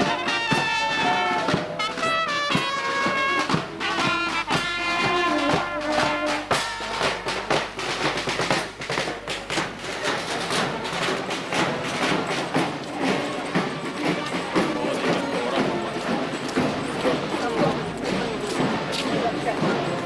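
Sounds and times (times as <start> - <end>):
bass drum and percussion beat: 0.0 - 20.0
brass band playing: 0.0 - 20.0.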